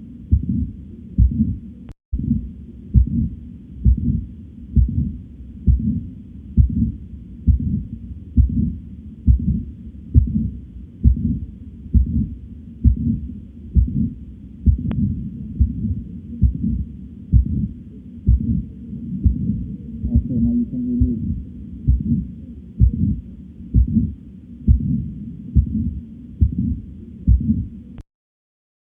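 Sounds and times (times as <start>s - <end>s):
heartbeat: 0.2s - 27.8s.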